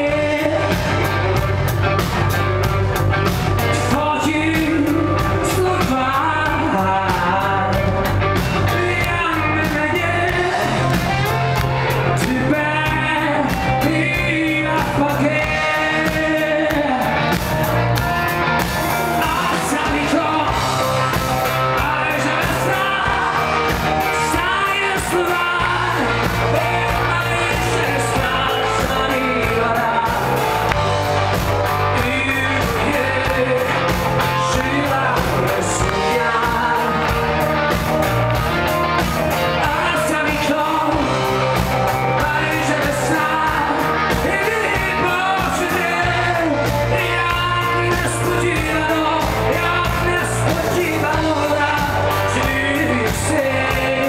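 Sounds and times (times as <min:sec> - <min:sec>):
live rock band playing: 0:00.0 - 0:54.0
male lead vocal: 0:00.0 - 0:54.0.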